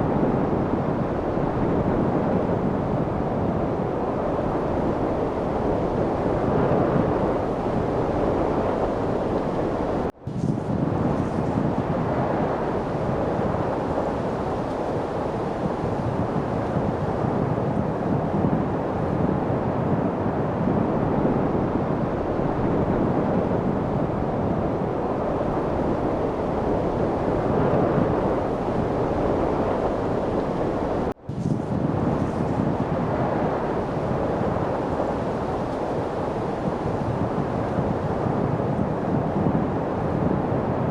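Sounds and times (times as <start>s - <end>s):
wind rushing: 0.0s - 40.9s.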